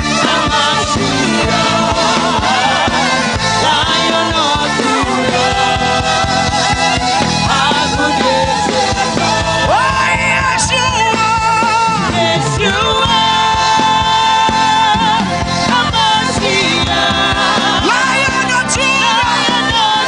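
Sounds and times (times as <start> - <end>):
band playing a steady beat: 0.0 - 20.0
person singing: 0.0 - 20.0.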